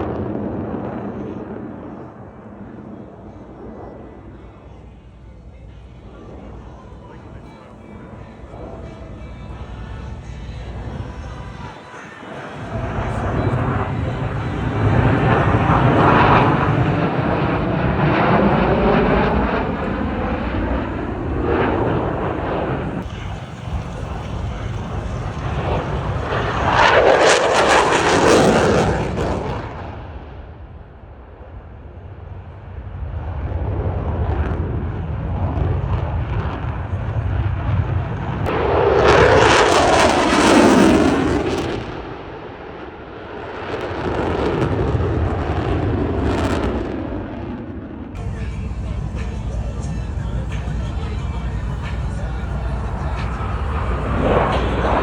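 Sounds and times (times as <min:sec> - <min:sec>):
jet aircraft roar: 0:00.0 - 0:55.0
jet passing overhead: 0:00.0 - 0:55.0.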